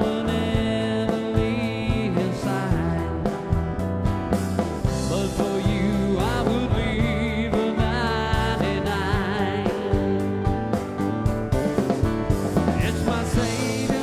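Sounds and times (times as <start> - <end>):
pop song with singing and guitar: 0.0 - 14.0.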